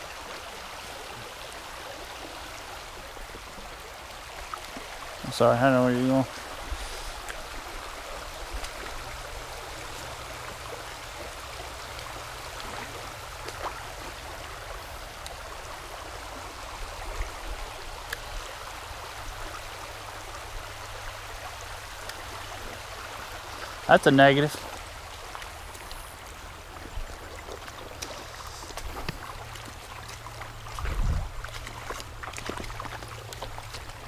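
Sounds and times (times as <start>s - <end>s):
creek water running over rocks: 0.0s - 34.0s.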